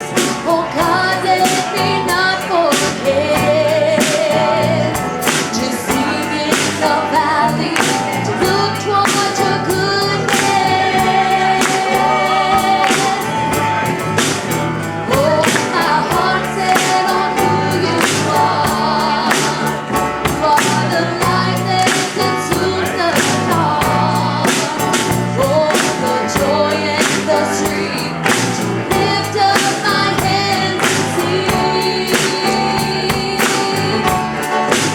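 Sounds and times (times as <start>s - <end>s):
band with steady drum beat: 0.0s - 34.9s
voices singing gospel: 0.0s - 34.9s.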